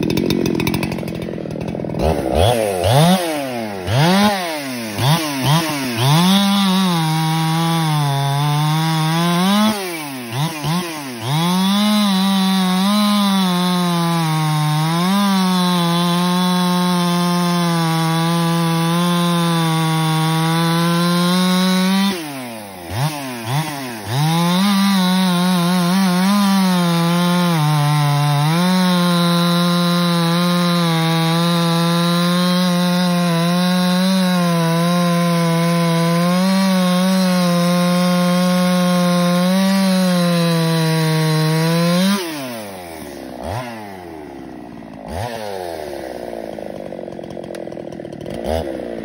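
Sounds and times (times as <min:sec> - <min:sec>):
chainsaw cutting log: 0:00.0 - 0:49.0.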